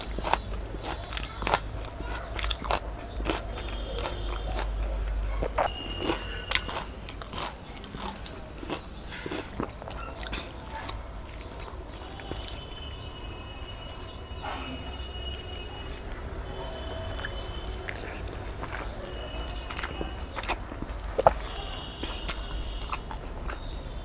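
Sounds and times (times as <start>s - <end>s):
chewing and wet mouth clicks: 0.0s - 23.9s.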